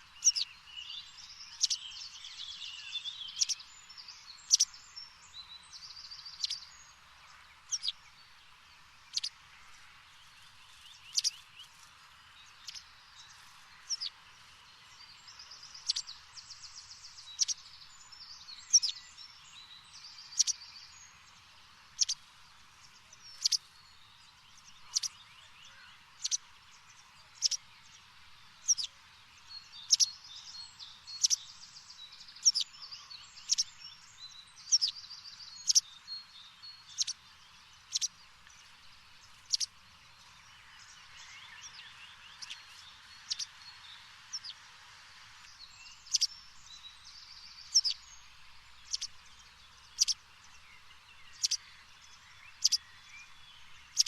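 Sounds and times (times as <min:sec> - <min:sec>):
birds twittering and trilling: 0:00.0 - 0:54.0
faint hiss: 0:00.0 - 0:54.0.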